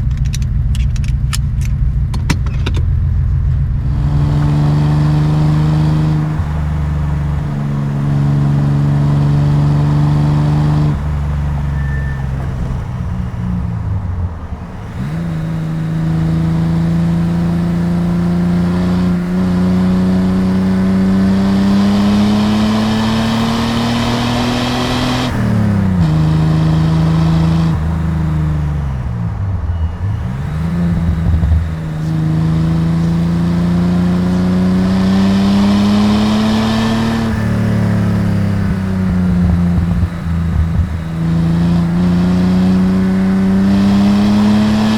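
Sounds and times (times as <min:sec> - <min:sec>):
car exhaust while driving: 0:00.0 - 0:44.9.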